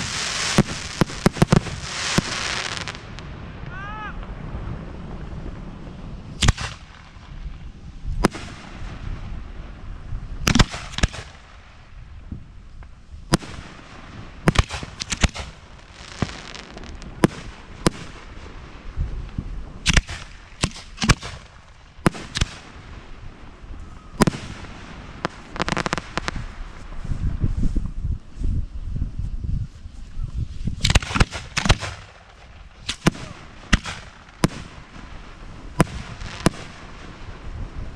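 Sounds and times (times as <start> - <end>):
rapid firework crackling: 0.0 - 9.4, 10.4 - 12.0, 13.3 - 27.0, 30.6 - 37.9.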